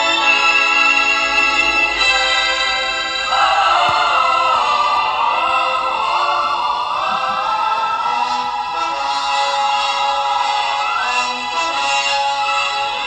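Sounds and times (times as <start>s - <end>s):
choir singing: 0.0s - 13.0s
sustained orchestral chords: 0.0s - 13.0s.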